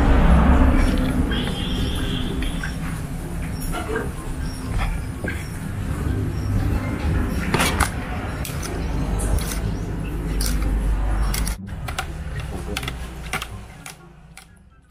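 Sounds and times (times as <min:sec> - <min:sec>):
low rumble: 0:00.0 - 0:12.6.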